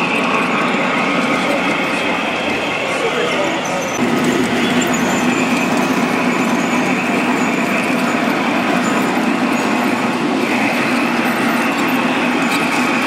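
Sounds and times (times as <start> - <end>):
model train wheels and motors: 0.0 - 13.0.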